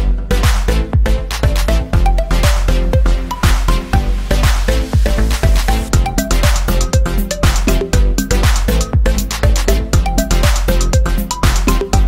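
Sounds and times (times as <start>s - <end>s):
kick-drum beat: 0.0s - 12.0s.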